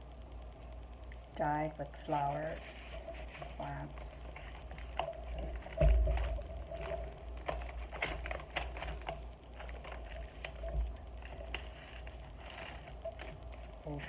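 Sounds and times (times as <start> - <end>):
paper pages rustling: 2.1 - 14.0.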